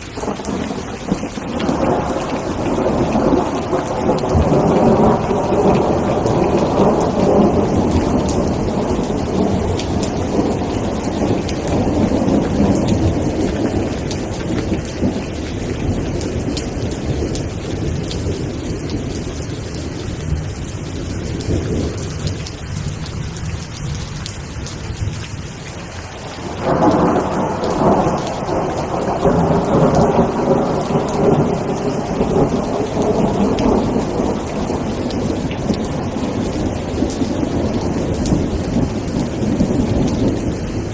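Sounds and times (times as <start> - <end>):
steady rain: 0.0 - 40.9
rolling thunder: 0.1 - 24.0, 26.2 - 40.9.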